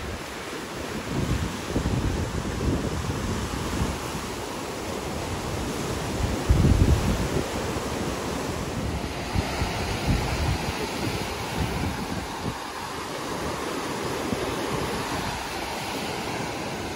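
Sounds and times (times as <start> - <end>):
sea waves breaking on beach: 0.0 - 16.9
wind buffeting microphone: 0.0 - 16.9.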